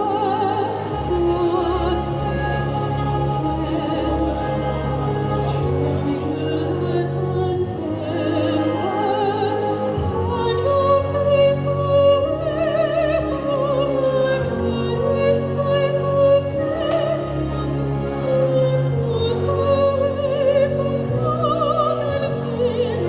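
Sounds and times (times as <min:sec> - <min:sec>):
woman singing opera: 0:00.0 - 0:23.0.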